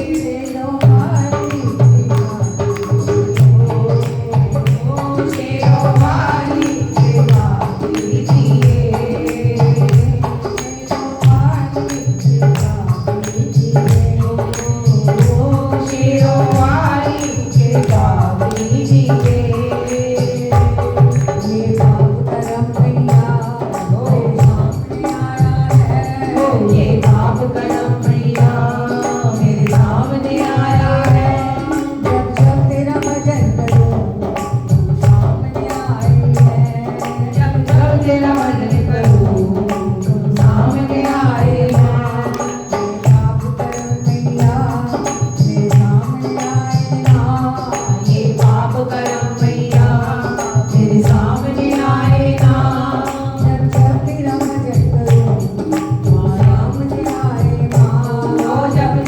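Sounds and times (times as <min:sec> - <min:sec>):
devotional music with drum beat: 0:00.0 - 0:59.0
jingling percussion: 0:00.0 - 0:59.0.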